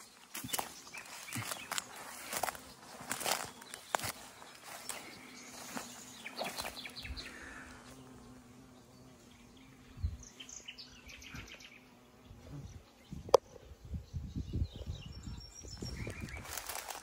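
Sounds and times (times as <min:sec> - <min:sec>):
bees buzzing: 0:00.0 - 0:13.9, 0:15.0 - 0:17.0.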